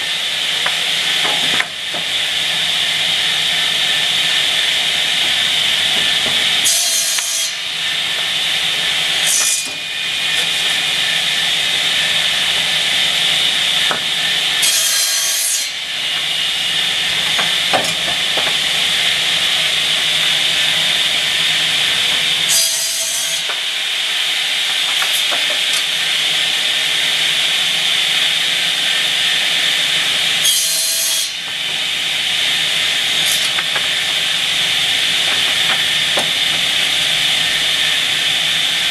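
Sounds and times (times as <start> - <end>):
circular saw running: 0.0 - 38.9
saw cutting wood: 0.0 - 38.9.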